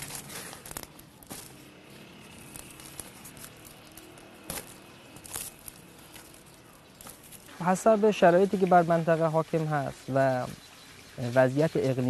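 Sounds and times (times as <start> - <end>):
flatbread crackling and rustling: 0.0 - 9.9.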